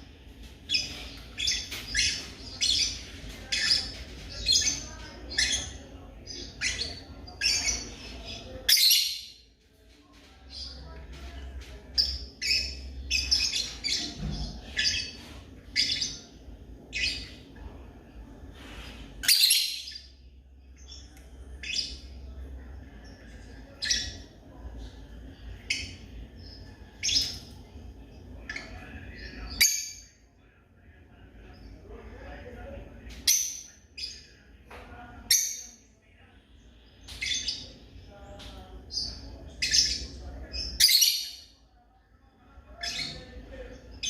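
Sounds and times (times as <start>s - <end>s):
lovebirds chirping: 0.0s - 41.6s, 42.4s - 44.0s.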